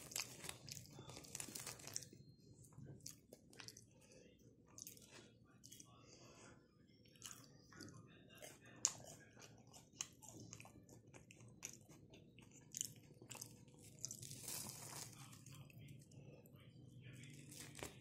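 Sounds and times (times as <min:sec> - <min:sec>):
chewing and crunching food: 0:00.0 - 0:18.0.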